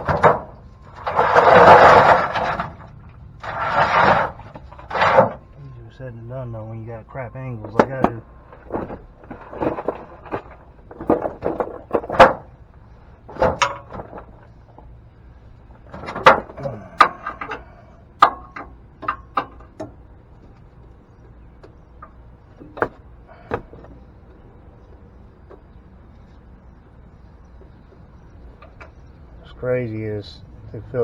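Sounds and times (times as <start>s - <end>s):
metal clanks: 0.0s - 5.6s, 6.6s - 26.4s, 27.5s - 29.6s.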